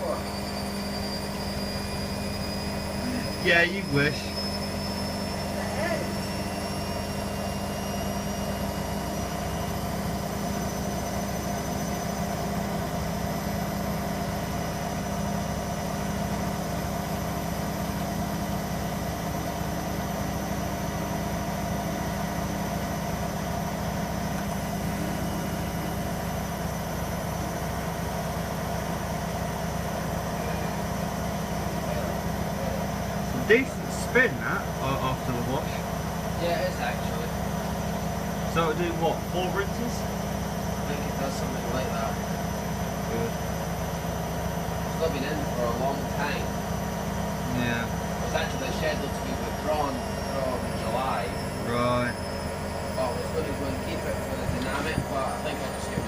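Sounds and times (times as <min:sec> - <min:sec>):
high motor whine: 0:00.0 - 0:56.0
washer dryer spinning hum: 0:00.0 - 0:56.0.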